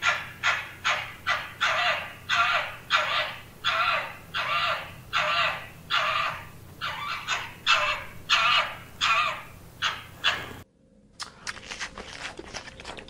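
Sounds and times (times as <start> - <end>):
animal harsh rasping calls: 0.0 - 10.6.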